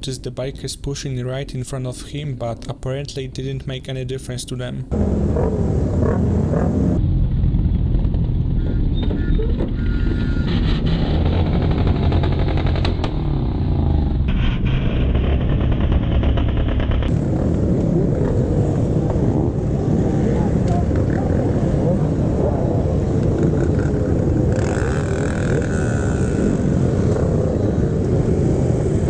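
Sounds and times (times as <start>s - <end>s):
road noise: 0.0s - 29.0s
motorcycle engine running: 4.9s - 29.0s.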